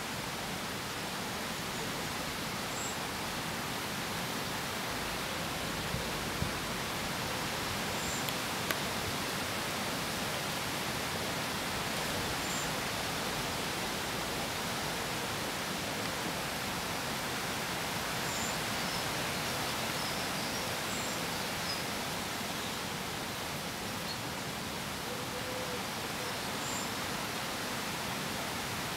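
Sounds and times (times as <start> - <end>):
outdoor background hiss: 0.0 - 28.9.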